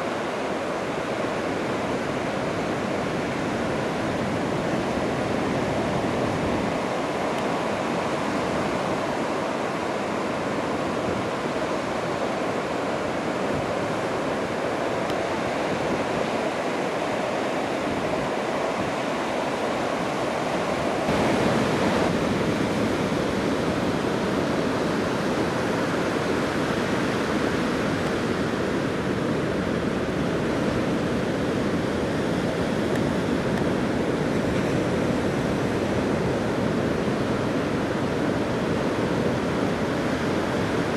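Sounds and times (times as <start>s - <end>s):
ocean surf breaking: 0.0s - 40.9s.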